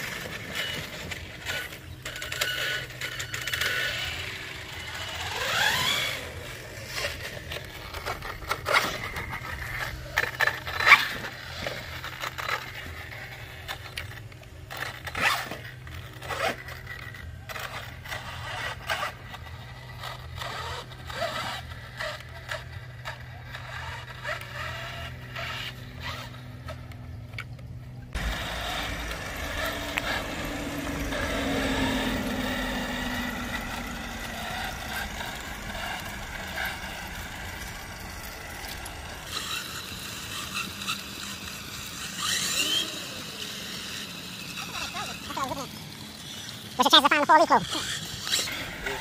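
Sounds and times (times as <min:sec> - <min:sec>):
electric motor whining: 0:00.0 - 0:49.0
toy trucks scraping over ground: 0:00.0 - 0:49.0.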